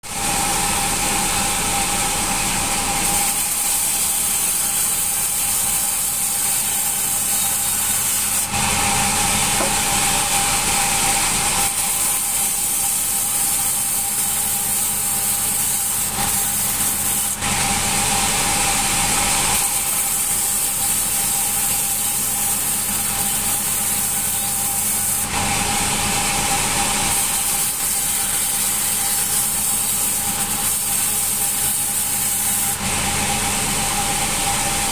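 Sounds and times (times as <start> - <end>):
band saw cutting wood: 0.0 - 34.9.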